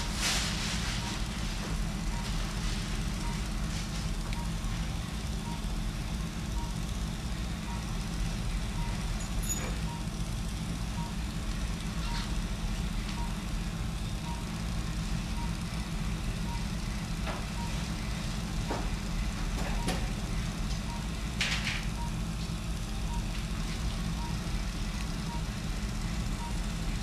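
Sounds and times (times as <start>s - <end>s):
patient monitor beeps: 0.0s - 6.9s, 7.6s - 10.2s, 10.9s - 27.0s
equipment low hum: 0.0s - 27.0s.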